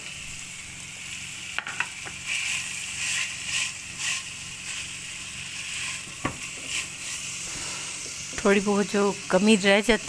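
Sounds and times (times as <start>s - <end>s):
food sizzling in frying pan: 0.0s - 10.0s.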